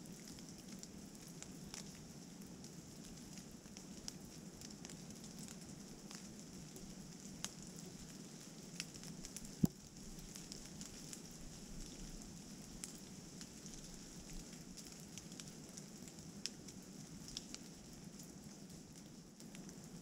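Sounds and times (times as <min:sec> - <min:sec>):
raindrops ticking on leaves: 0:00.0 - 0:20.0.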